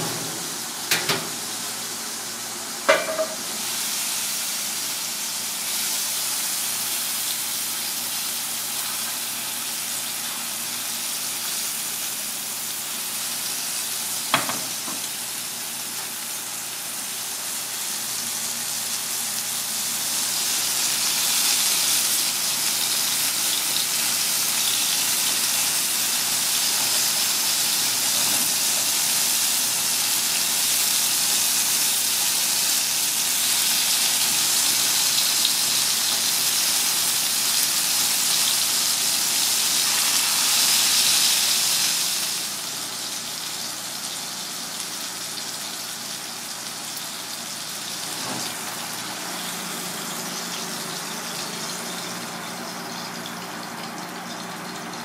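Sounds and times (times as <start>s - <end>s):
fish sizzling in hot oil: 0.2s - 55.0s.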